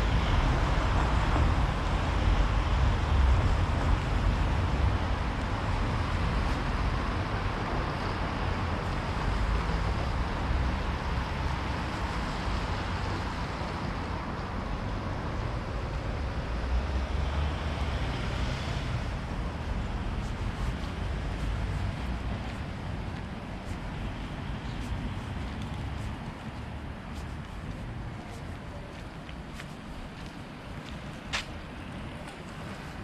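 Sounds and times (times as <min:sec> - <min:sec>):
passing cars rumble and hiss: 0:00.0 - 0:33.0.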